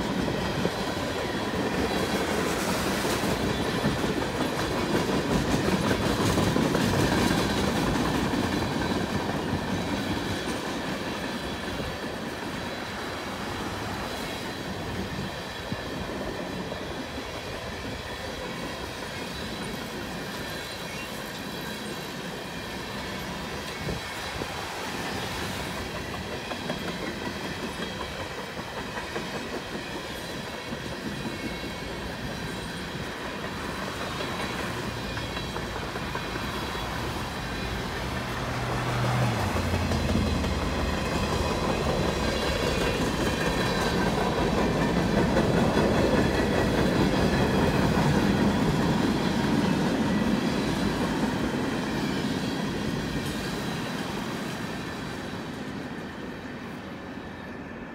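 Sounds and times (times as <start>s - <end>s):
wheels clickety-clack over rail joints: 0.0s - 56.8s
freight train rumbling past: 0.0s - 57.9s.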